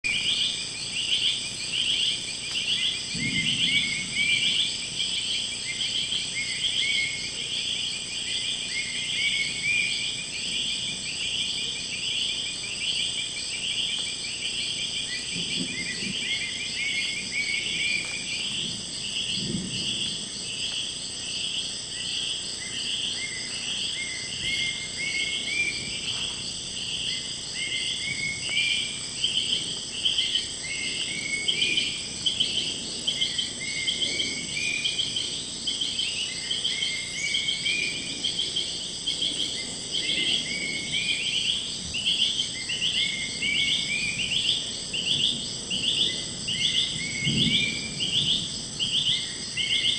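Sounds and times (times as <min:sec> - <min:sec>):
insects buzzing: 0:00.0 - 0:49.9
rhythmic insect chirping: 0:00.1 - 0:49.9.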